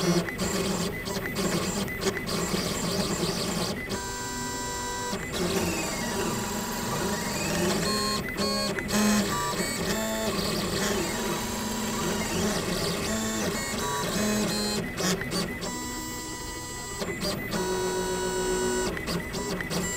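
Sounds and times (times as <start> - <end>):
engraving machine motors whining: 0.0 - 19.9.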